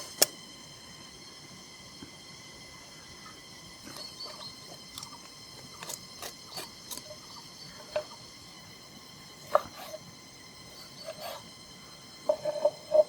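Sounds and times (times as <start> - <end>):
faint high background noise: 0.0 - 13.0.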